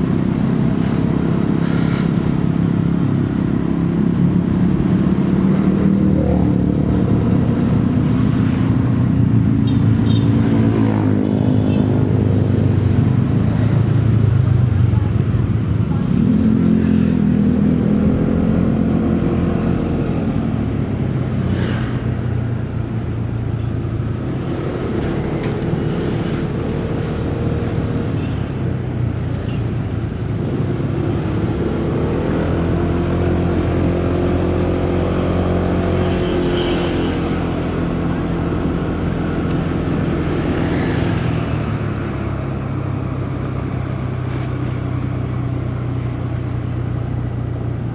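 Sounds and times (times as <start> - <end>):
city traffic noise: 0.0 - 47.9.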